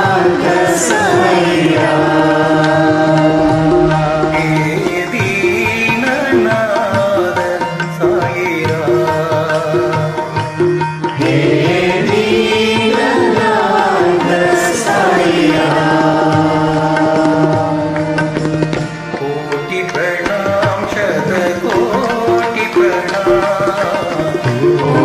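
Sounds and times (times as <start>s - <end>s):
karaoke backing track with tabla: 0.0s - 25.0s
person singing devotional song: 0.0s - 25.0s.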